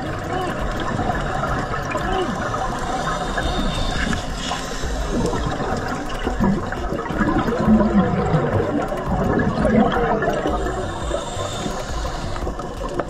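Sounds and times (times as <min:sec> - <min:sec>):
bubbles gurgling: 0:00.0 - 0:13.0
underwater rushing wash: 0:00.0 - 0:13.0.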